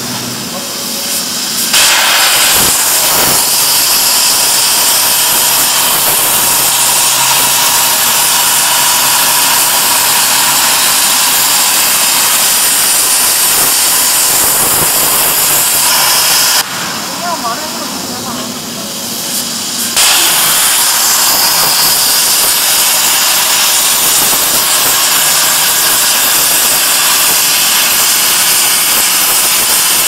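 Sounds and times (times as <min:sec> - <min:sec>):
plasma torch hissing: 0:00.0 - 0:30.0.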